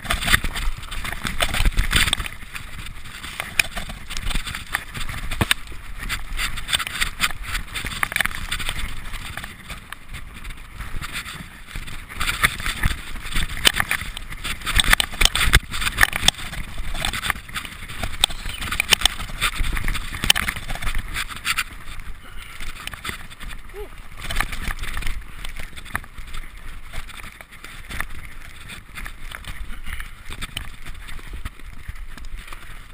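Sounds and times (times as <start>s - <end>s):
bike chain and frame rattling: 0.0s - 32.9s
tyres crunching over dirt: 0.0s - 32.9s
wind rumbling on microphone: 0.0s - 32.9s.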